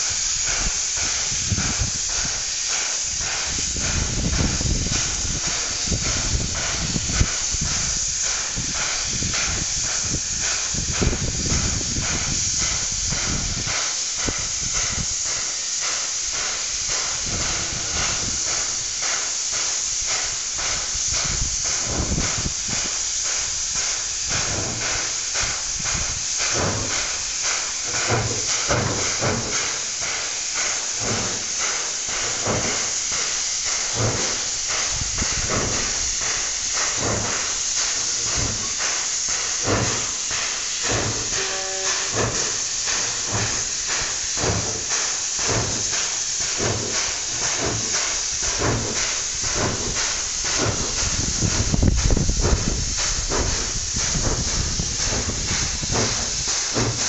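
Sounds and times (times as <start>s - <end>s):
steam hiss: 0.0s - 57.0s
steam locomotive exhaust chuffs: 0.0s - 57.0s.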